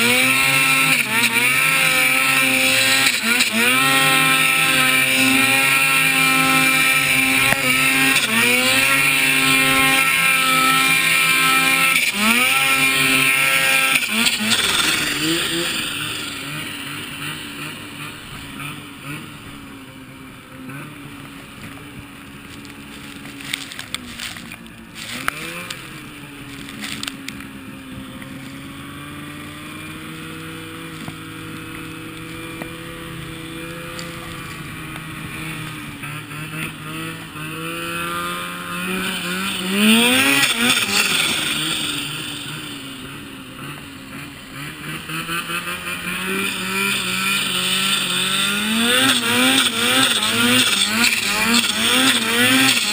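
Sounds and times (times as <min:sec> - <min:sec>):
engine revving: 0:00.0 - 0:52.9
snowmobile engine running: 0:00.0 - 0:52.9.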